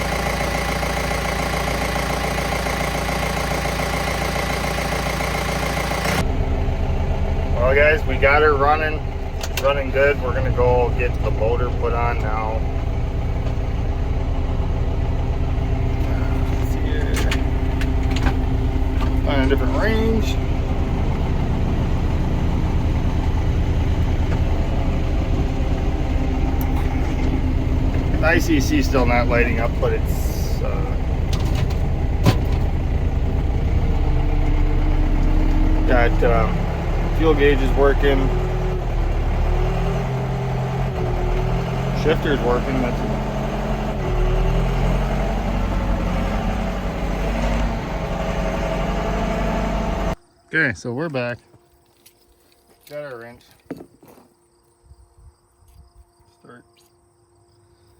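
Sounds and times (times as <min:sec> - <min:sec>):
tractor diesel engine idling: 0:00.0 - 0:50.2.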